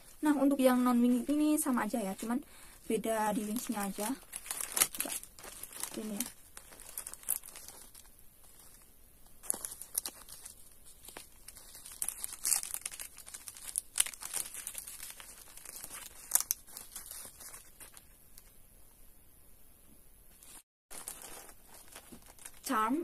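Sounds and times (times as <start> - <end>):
plastic packaging crinkling: 0.0 - 18.6, 20.4 - 23.0.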